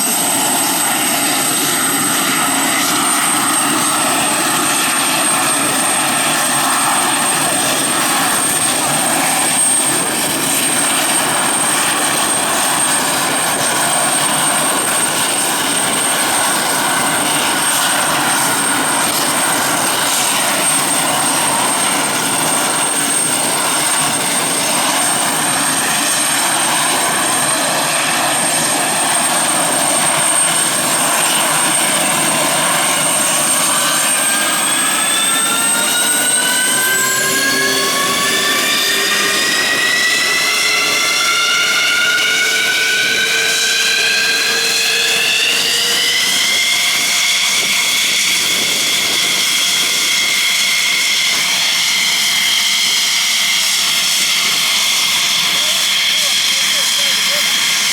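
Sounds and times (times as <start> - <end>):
jet engine roar and whine: 0.0 - 57.9.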